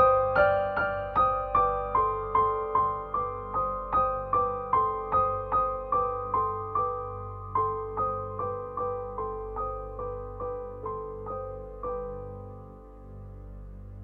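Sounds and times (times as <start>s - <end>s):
keyboard piano-like notes: 0.0s - 14.0s.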